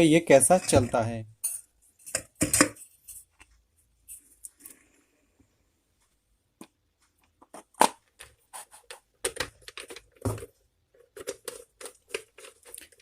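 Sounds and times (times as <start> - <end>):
clicks taps and scrapes of parts: 0.6 - 4.8, 6.0 - 13.0.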